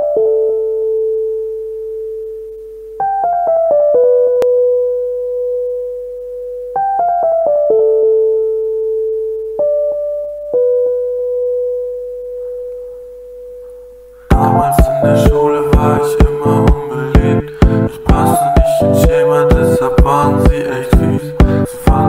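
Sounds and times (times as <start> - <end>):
keyboard melody: 0.0 - 22.0.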